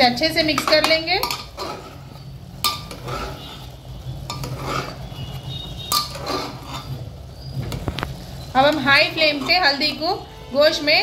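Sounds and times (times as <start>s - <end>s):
metal spoon scraping pot: 0.3s - 11.0s.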